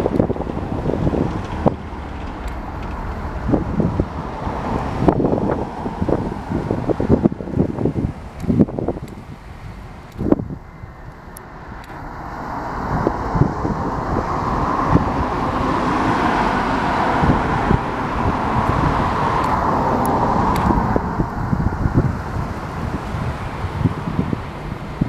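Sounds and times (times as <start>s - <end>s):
vehicle passing: 0.0s - 25.0s
wind buffeting microphone: 0.0s - 25.0s.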